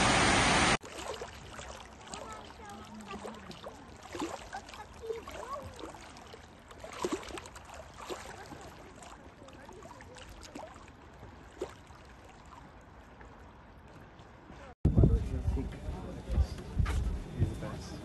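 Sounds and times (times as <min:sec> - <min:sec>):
small waves lapping: 0:00.0 - 0:14.8.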